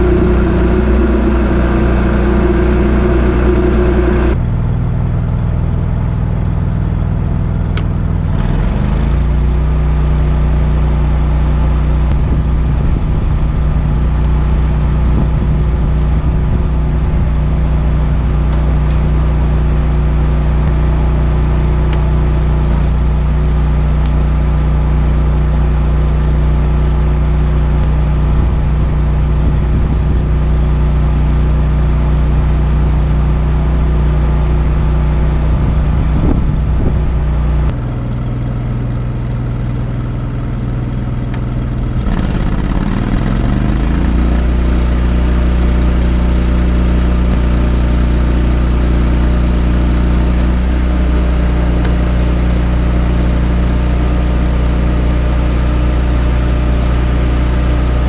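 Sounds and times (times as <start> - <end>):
welding machine engine running: 0.0 - 36.6, 37.2 - 58.0.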